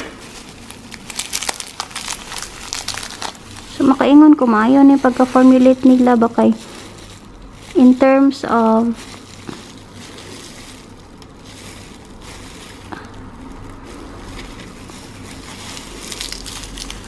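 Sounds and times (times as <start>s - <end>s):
plastic gloves crinkling: 0.0s - 17.0s.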